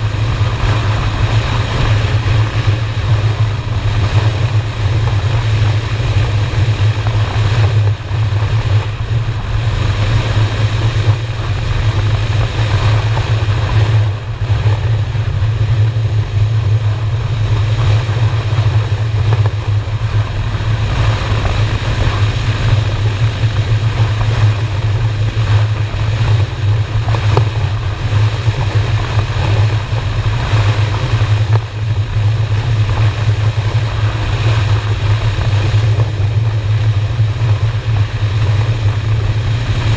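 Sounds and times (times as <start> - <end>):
motorcycle engine droning: 0.0 - 39.9
wind rushing over microphone: 0.0 - 39.9.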